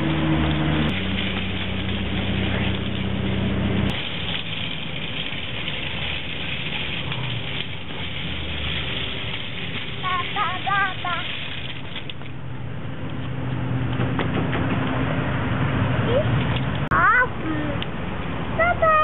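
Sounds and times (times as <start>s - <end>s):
engine hum: 0.0s - 19.0s
even rough noise: 0.0s - 19.0s.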